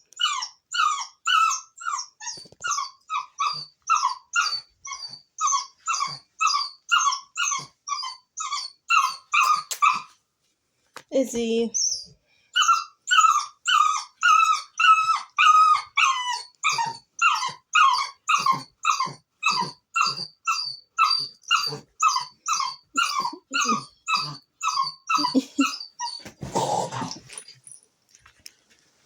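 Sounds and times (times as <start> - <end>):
puppy yelping whines: 0.1 - 10.2, 11.8 - 27.4.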